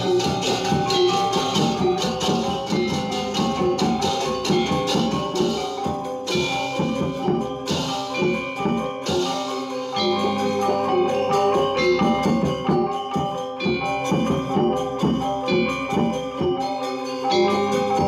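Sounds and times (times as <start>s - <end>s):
gamelan gong ensemble playing: 0.0s - 18.0s.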